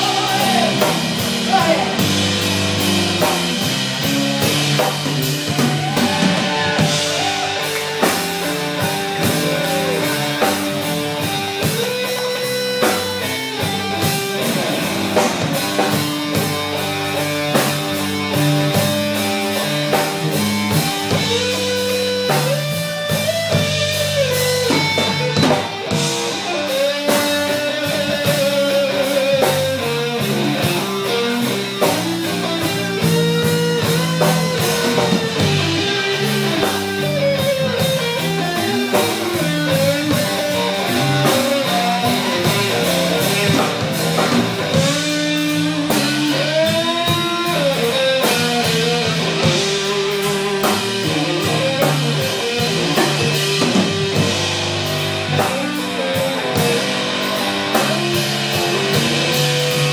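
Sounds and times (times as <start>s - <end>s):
drum kit: 0.0s - 59.9s
electric guitar bending notes: 0.0s - 59.9s
steady low bass notes: 0.0s - 59.9s.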